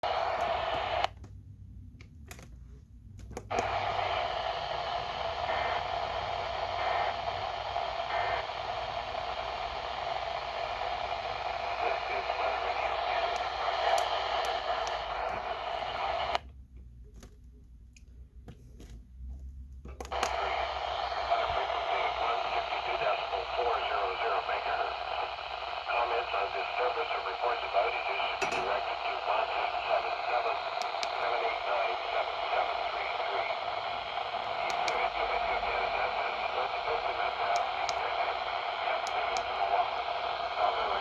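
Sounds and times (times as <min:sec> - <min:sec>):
radio static hiss: 0:00.0 - 0:01.2, 0:03.5 - 0:16.5, 0:20.0 - 0:41.0.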